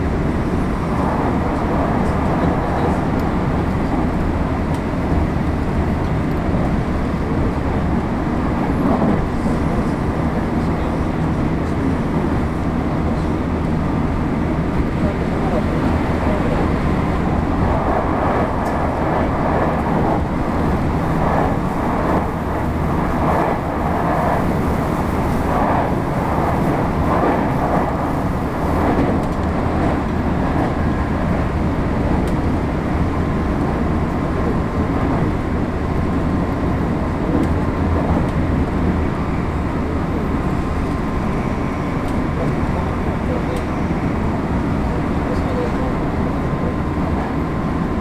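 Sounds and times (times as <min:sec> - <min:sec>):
passing train rushing: 0:00.0 - 0:48.0
train wheels rumbling on rail: 0:00.0 - 0:48.0.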